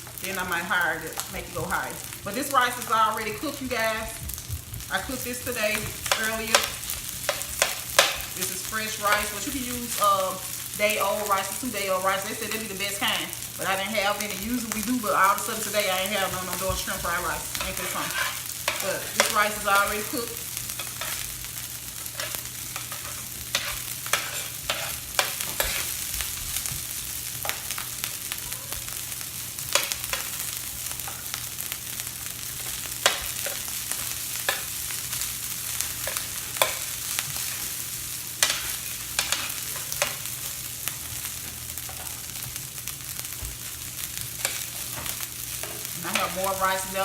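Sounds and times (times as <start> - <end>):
rice sizzling on a griddle: 0.0 - 47.0.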